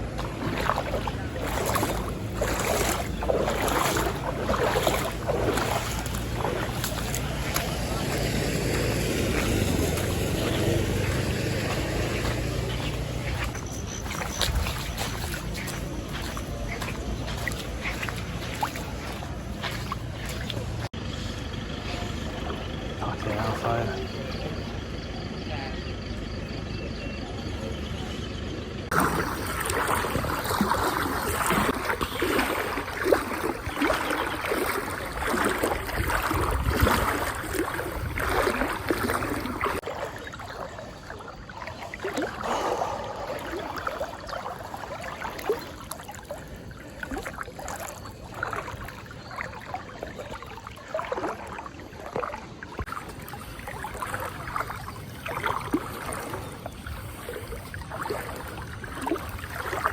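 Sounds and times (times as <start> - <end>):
wading through deep water: 0.0 - 59.9.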